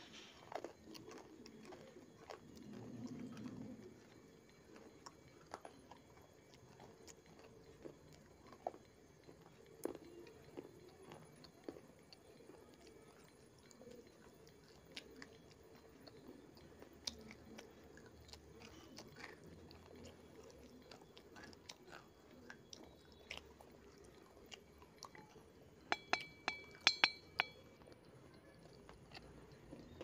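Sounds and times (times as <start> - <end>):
soft chewing crunches: 0.0 - 30.0.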